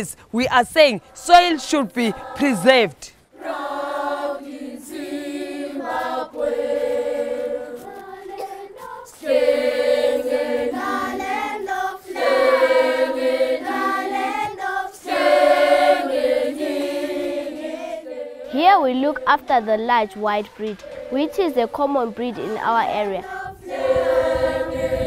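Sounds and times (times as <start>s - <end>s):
choir singing long notes: 1.0s - 25.0s.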